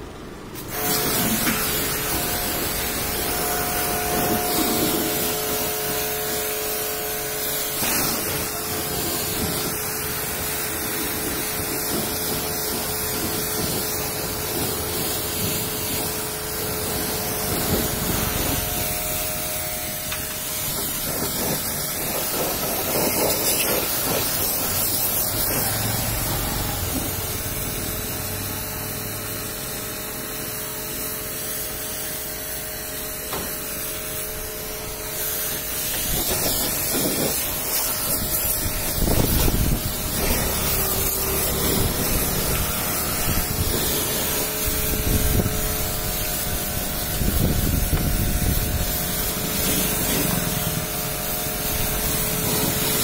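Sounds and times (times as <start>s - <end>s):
pressure washer spraying water: 0.1s - 53.0s.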